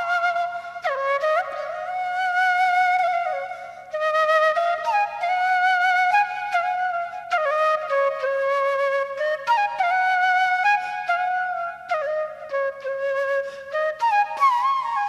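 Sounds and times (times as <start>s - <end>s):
flute playing a slow melody: 0.0s - 15.0s.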